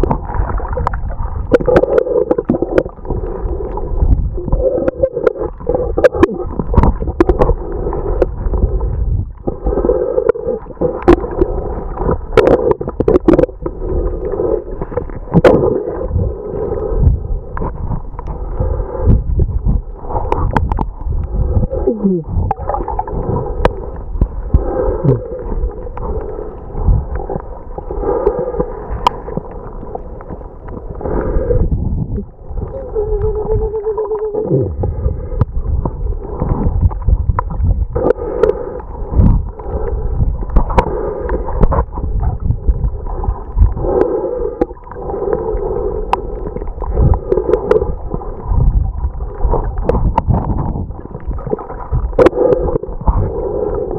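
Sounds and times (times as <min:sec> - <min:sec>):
low underwater rumble: 0:00.0 - 0:53.9
water gurgling and sloshing: 0:00.0 - 0:53.9.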